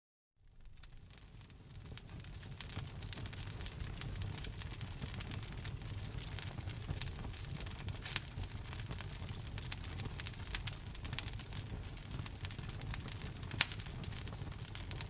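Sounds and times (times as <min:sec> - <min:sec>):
wood fire crackling and popping: 0:00.5 - 0:15.0.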